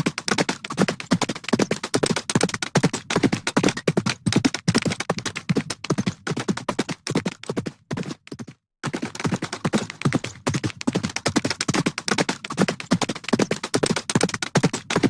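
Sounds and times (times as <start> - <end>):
horse hooves galloping: 0.0 - 15.0.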